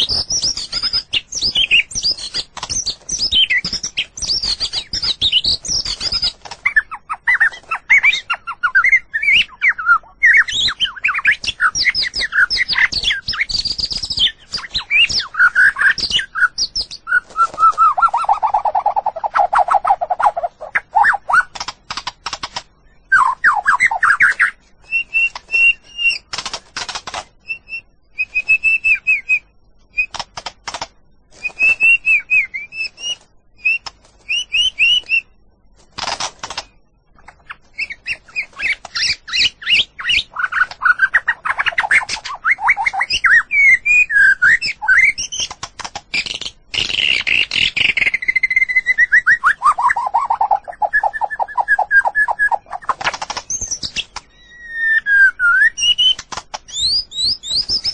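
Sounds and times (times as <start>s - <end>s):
bird singing: 0.0s - 21.9s, 22.7s - 26.4s, 27.3s - 30.4s, 31.4s - 35.5s, 36.6s - 57.9s.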